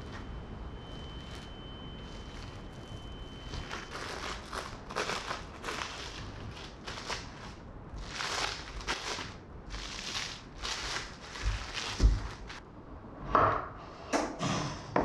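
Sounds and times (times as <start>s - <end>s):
cling film crinkling: 0.0s - 12.6s.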